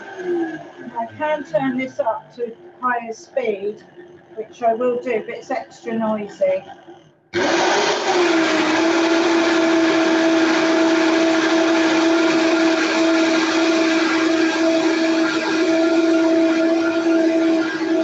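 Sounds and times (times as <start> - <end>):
electric blender whining: 0.0 - 18.0.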